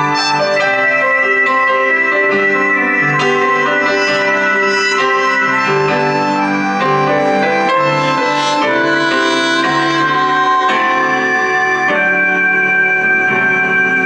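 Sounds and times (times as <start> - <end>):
accordion: 0.0 - 14.0
piano: 0.0 - 14.0
saxophone slow melody: 0.0 - 14.0.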